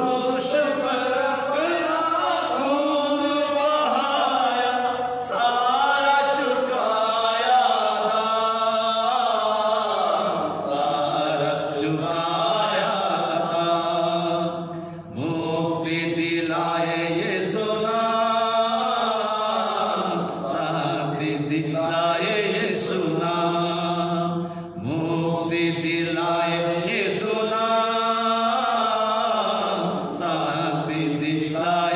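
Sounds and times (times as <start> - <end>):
man singing a hymn: 0.0 - 31.9.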